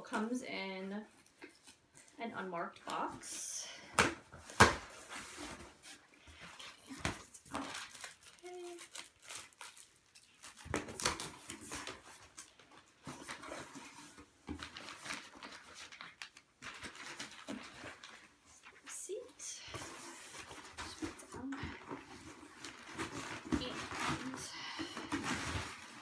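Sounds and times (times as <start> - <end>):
packing paper rustling: 4.3 - 18.9, 19.6 - 26.0.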